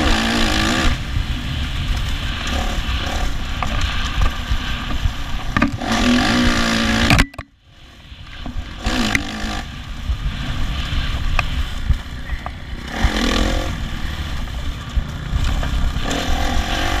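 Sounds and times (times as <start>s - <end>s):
dirt bike engine revving: 0.0s - 7.4s, 8.6s - 17.0s
wind rumble: 0.0s - 17.0s.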